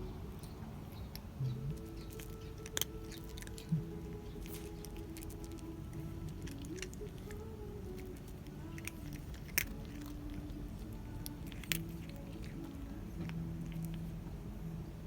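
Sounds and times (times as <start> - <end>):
cat crunching dry food: 0.2 - 15.0.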